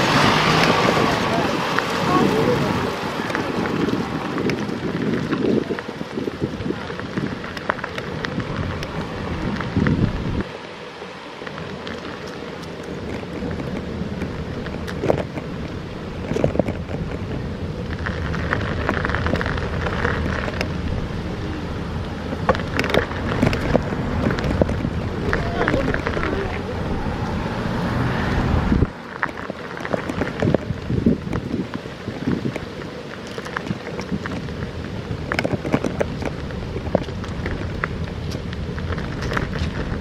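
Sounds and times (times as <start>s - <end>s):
wind rumbling on microphone: 0.0s - 40.0s
bicycle clicks and rattles: 3.2s - 21.2s, 21.8s - 27.4s, 28.8s - 40.0s.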